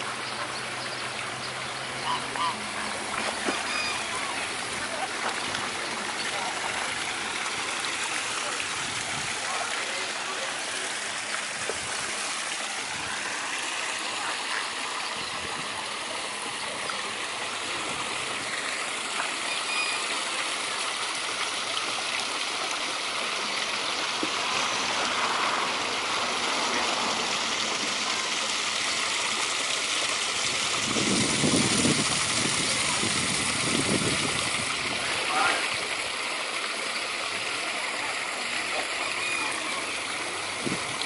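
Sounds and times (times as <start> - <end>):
small waterfall splashing: 0.0 - 41.0.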